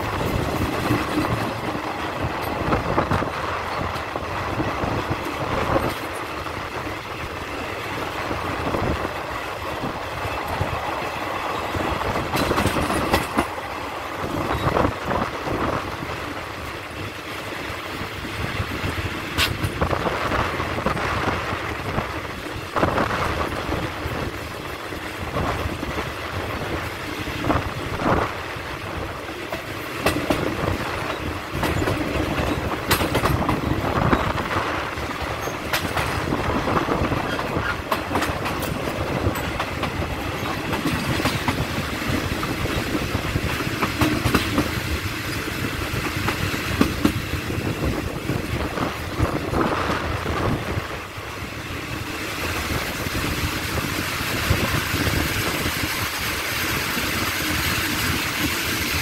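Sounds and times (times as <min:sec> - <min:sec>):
train clattering and knocking: 0:00.0 - 0:59.0
train wheels rumbling on rails: 0:00.0 - 0:59.0.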